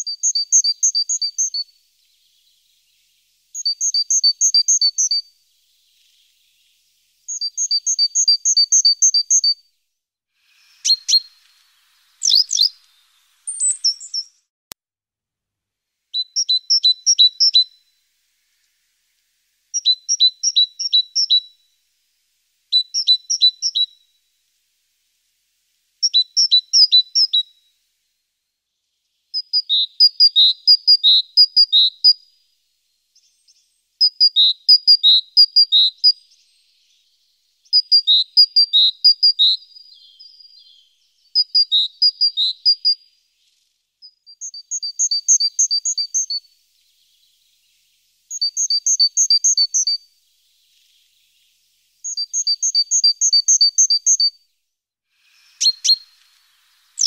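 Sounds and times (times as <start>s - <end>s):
songbird singing: 0.0s - 9.7s, 10.5s - 14.5s, 16.1s - 54.6s, 55.2s - 57.0s.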